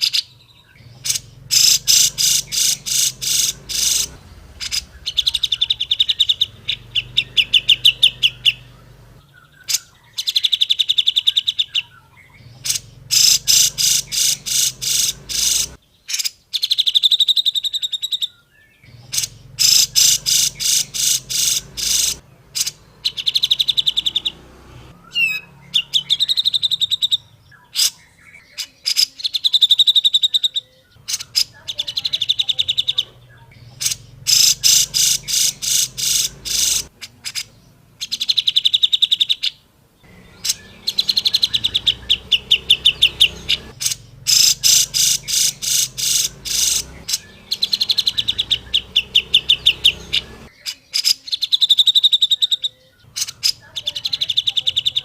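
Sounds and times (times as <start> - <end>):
bird chattering call: 0.0 - 55.0.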